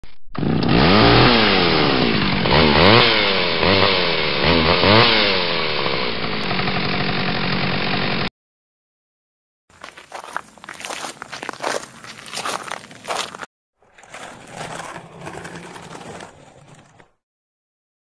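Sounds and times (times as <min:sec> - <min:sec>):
chainsaw engine revving: 0:00.3 - 0:08.3, 0:10.1 - 0:17.1.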